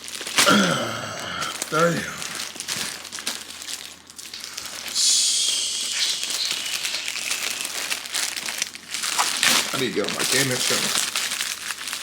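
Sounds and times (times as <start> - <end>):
packaging crinkling and rustling: 0.0 - 5.0, 5.9 - 12.0.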